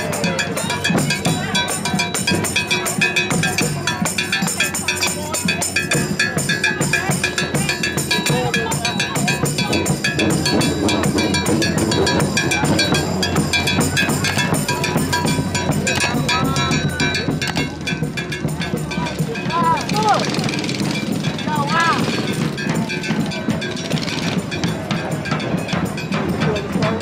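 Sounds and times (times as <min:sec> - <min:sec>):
crowd voices: 0:00.0 - 0:27.0
hand percussion: 0:00.0 - 0:27.0.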